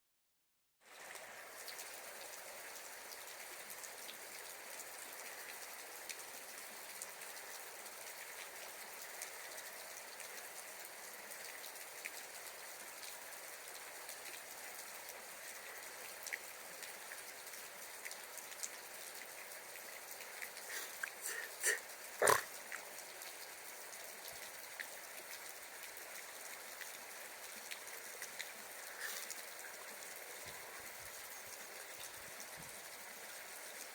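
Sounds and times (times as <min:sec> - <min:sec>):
steady watery hiss: 0:00.8 - 0:33.9.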